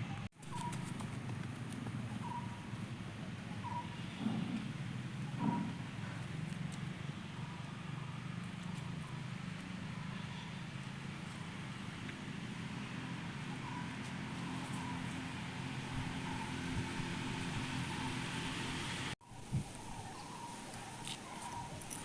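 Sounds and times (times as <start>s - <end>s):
motor engine humming: 0.0s - 19.2s.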